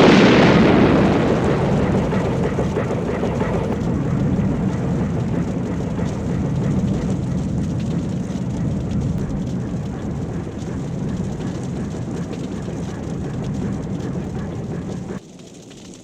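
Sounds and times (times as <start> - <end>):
low rumble: 0.0 - 15.2
faint crackles: 0.0 - 16.0.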